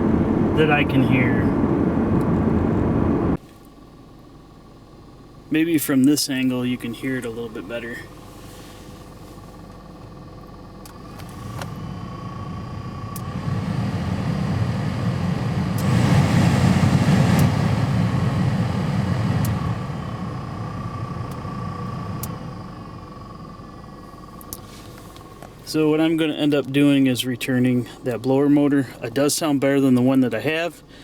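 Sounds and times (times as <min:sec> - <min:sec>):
blower fan air rush with whine: 0:00.0 - 0:03.4, 0:05.6 - 0:31.0.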